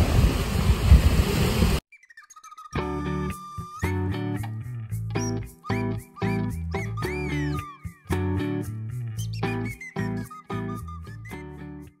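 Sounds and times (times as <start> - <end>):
background music with pitched notes: 1.9 - 12.0.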